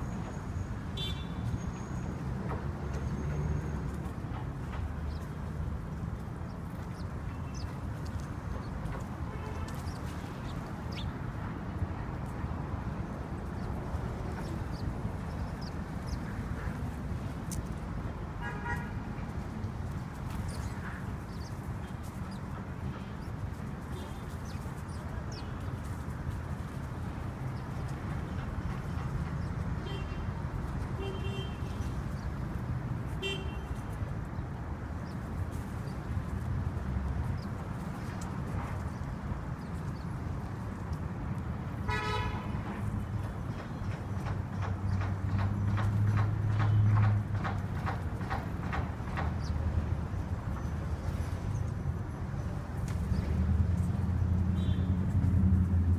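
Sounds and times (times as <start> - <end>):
street traffic rumbling: 0.0 - 55.9.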